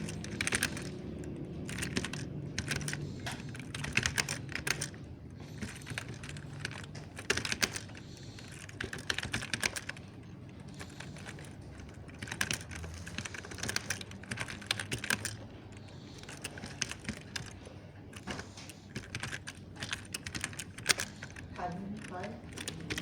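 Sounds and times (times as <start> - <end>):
mechanical keyboard keys clicking: 0.0 - 23.0.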